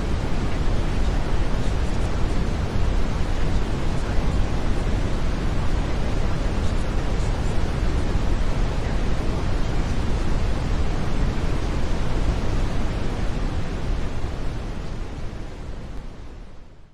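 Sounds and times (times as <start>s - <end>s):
brown noise deep hiss: 0.0s - 16.9s.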